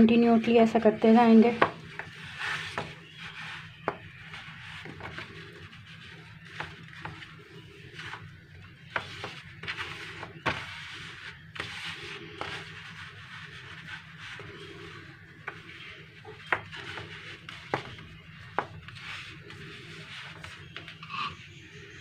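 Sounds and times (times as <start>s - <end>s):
hands rustling in flour: 1.1s - 21.0s.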